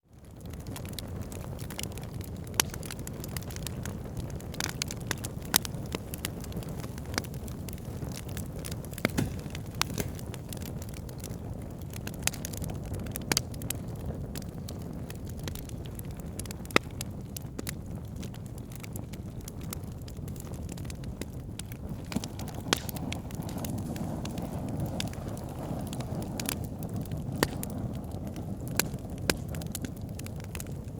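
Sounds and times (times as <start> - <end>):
fire crackling and popping: 0.0 - 30.9
low rumble of flames: 0.0 - 30.9.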